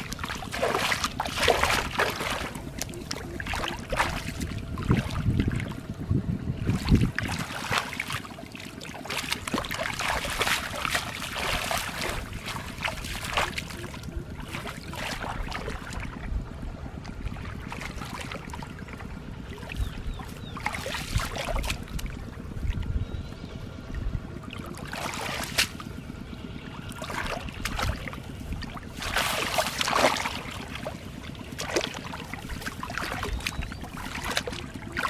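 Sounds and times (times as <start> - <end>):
hands splashing in shallow water: 0.0 - 5.8, 6.7 - 16.2, 17.1 - 22.2, 24.8 - 25.9, 26.9 - 35.0.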